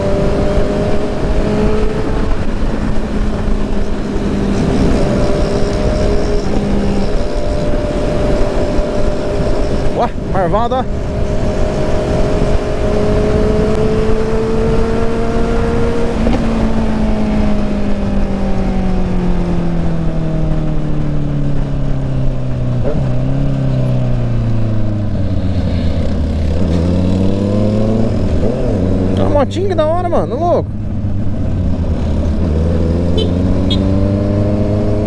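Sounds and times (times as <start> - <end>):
motorcycle engine running: 0.0 - 35.0
wind rushing over microphone: 0.0 - 35.0.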